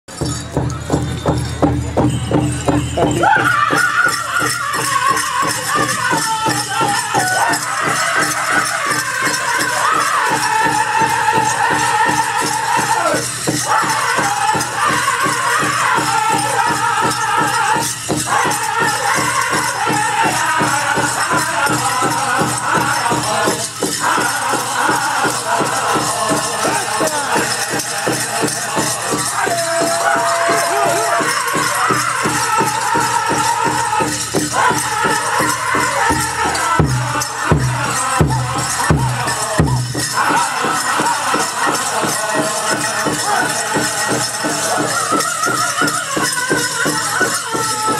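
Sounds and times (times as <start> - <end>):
steady drumbeat: 0.1 - 45.6
bells jingling: 0.1 - 47.9
group singing in high voices: 2.7 - 47.9.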